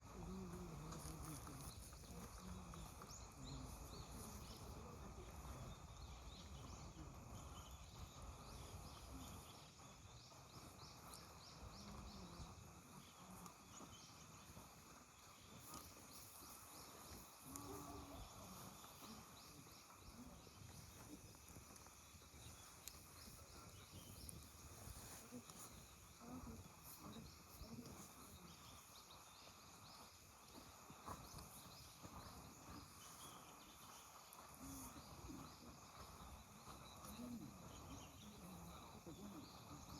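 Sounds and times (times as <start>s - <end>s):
faint distant voices: 0.0s - 39.9s.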